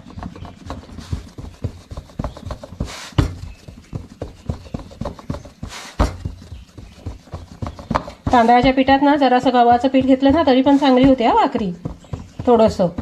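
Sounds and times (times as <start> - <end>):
hands slapping dough: 0.0 - 13.0
swishing pats: 0.0 - 13.0.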